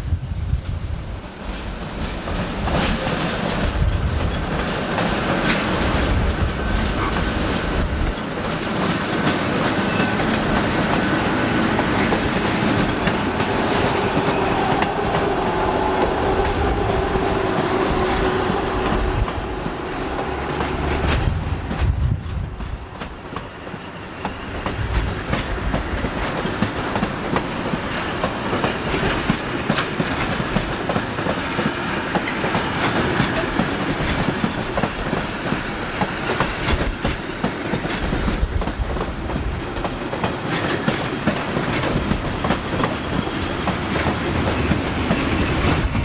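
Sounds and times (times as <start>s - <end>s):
train rumble: 0.0s - 46.0s
train wheels clattering on rails: 0.5s - 46.0s.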